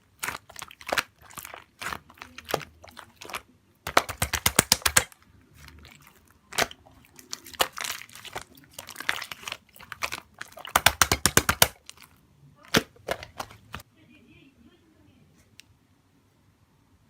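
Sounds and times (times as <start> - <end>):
slime squished by hand: 0.0 - 13.8.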